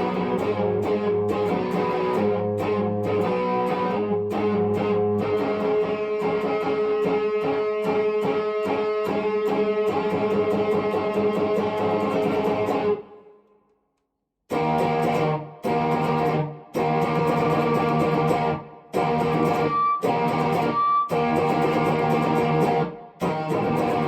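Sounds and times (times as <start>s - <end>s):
electric guitar picked notes: 0.0s - 13.0s, 14.5s - 24.0s.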